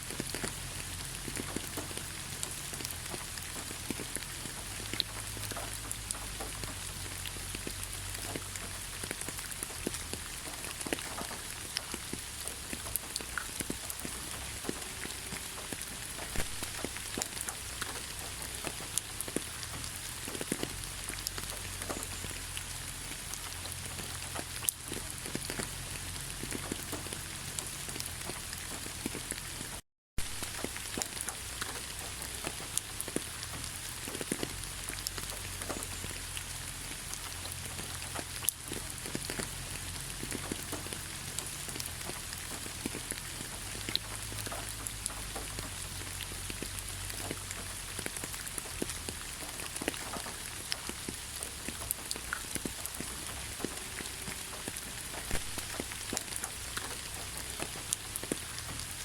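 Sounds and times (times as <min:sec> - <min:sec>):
raindrops ticking: 0:00.0 - 0:59.0
steady rain falling: 0:00.0 - 0:59.0.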